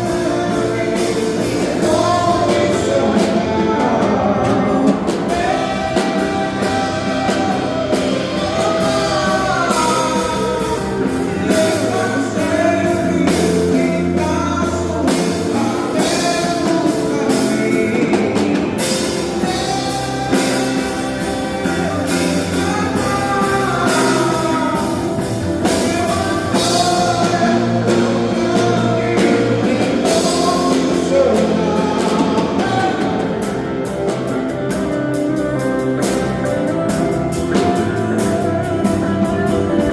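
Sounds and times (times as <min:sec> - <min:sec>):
drum kit: 0:00.0 - 0:39.9
guitar: 0:00.0 - 0:39.9
live band playing worship song: 0:00.0 - 0:39.9.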